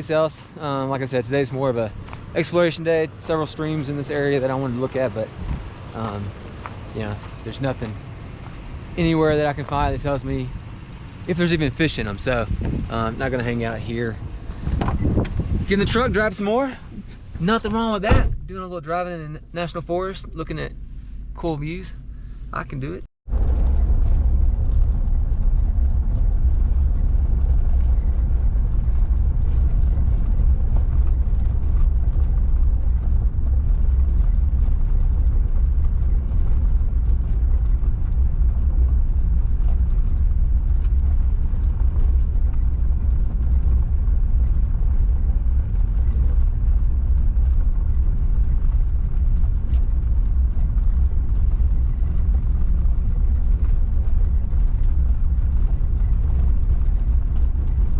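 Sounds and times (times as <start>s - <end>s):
truck engine and tyres rumbling: 0.0s - 57.9s.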